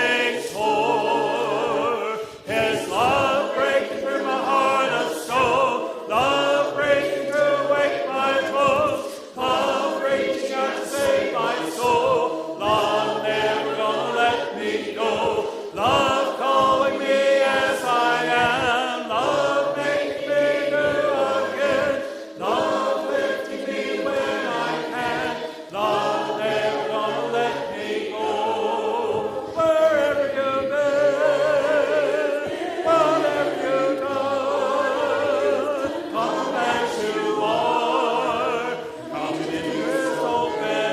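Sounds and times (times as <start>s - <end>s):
group singing worship song: 0.0s - 40.9s.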